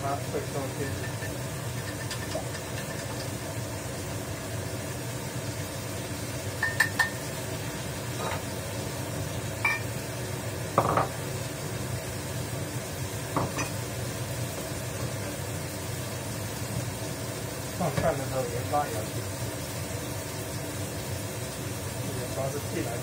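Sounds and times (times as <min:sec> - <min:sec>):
range hood humming: 0:00.0 - 0:23.0.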